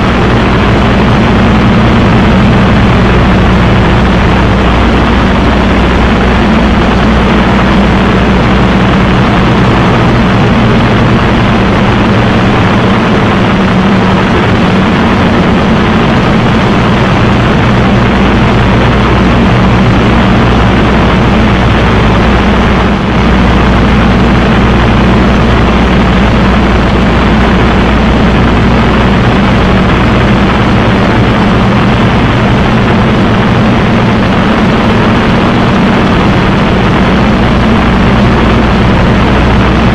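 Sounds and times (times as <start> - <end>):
aircraft piston engine droning: 0.0 - 39.9.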